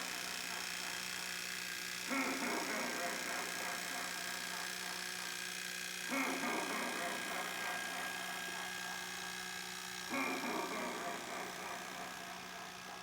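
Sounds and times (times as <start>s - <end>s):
animatronic motor humming: 2.0s - 13.0s.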